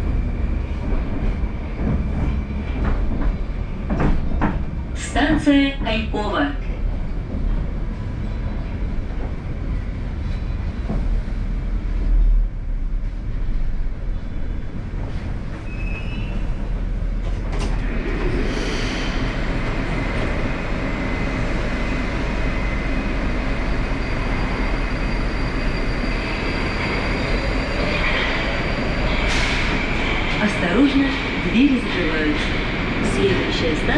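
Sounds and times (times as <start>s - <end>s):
metro train rumbling: 0.0s - 33.9s.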